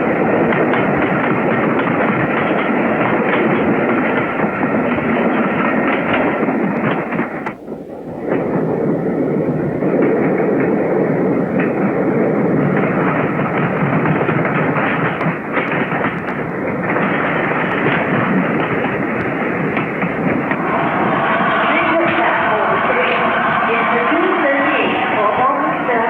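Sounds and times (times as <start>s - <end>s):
steam locomotive running: 0.0s - 26.0s.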